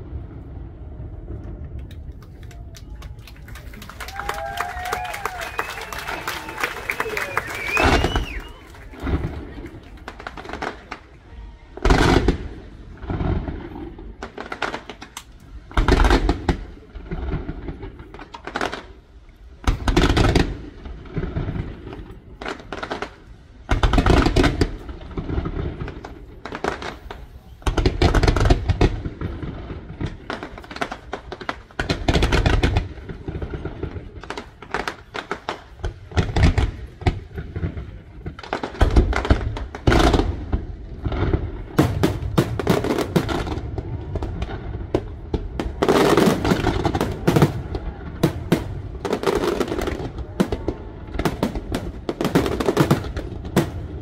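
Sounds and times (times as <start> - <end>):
firework crackling: 0.0 - 54.0
firework booms: 4.2 - 54.0.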